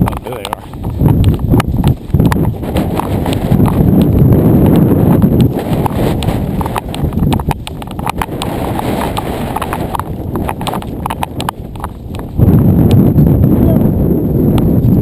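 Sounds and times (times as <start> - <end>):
gear rattling: 0.0 - 12.7
footsteps on hard ground: 0.0 - 13.2
microphone being jostled: 0.0 - 15.0.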